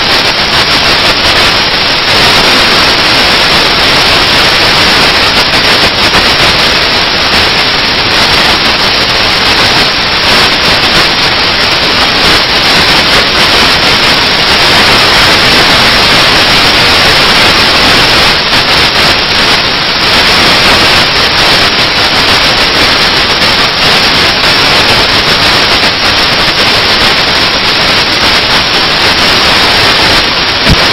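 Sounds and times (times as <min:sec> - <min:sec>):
loud static hiss: 0:00.0 - 0:30.9.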